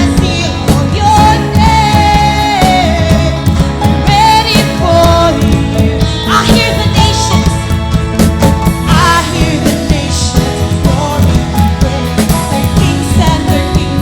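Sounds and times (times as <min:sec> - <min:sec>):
drums and bass: 0:00.0 - 0:14.0
person singing: 0:00.0 - 0:14.0.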